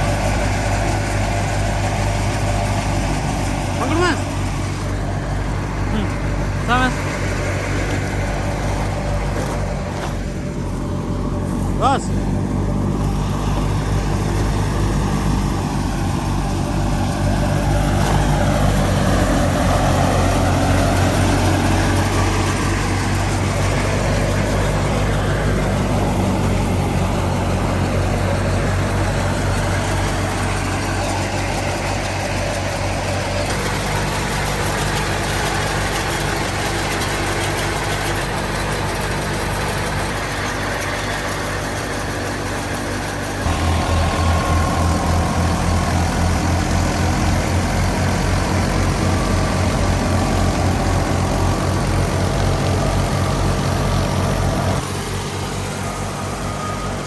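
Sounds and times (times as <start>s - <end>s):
thresher whirring: 0.0s - 57.0s
tractor diesel engine running: 0.0s - 57.0s.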